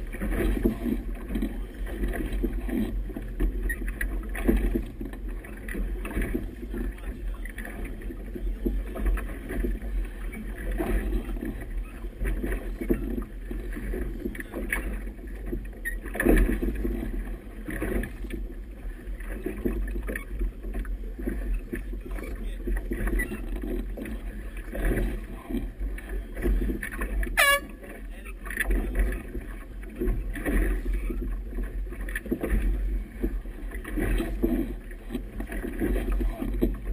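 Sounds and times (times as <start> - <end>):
water slapping boat hull: 0.0 - 36.9.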